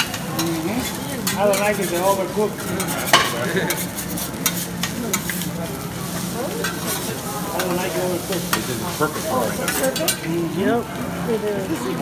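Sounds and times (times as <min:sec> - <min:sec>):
metal spatulas scraping griddle: 0:00.0 - 0:10.3
rice sizzling on griddle: 0:00.0 - 0:12.0.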